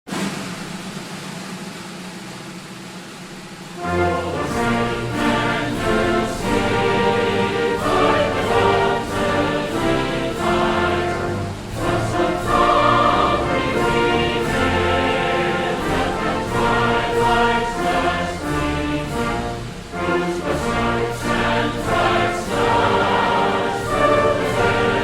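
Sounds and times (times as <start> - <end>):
orchestral backing: 2.8 - 25.0
choir singing sustained chords: 3.7 - 25.0.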